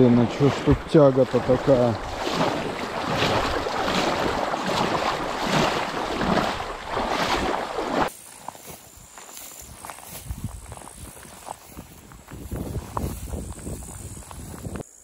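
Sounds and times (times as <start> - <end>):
river current rushing around legs: 0.0 - 14.8.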